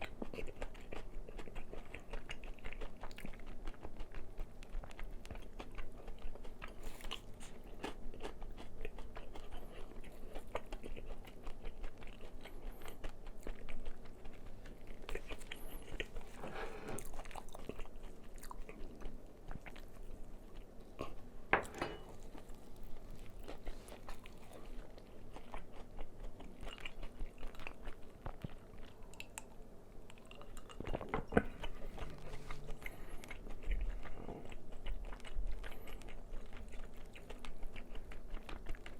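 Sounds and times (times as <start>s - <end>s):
crunching and chewing fried chicken: 0.0s - 38.9s.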